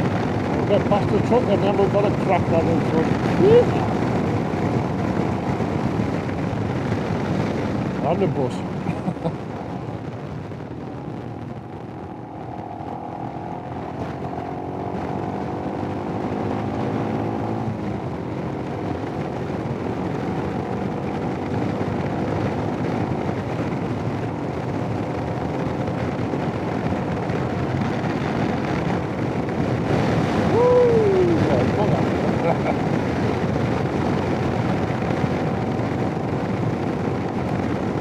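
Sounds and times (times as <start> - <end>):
motorcycle engine running: 0.0 - 38.0
wind noise on microphone: 0.0 - 38.0.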